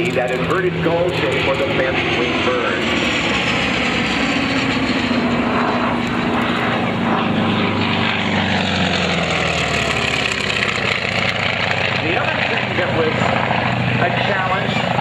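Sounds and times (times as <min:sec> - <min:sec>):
propeller plane flying past: 0:00.0 - 0:15.0.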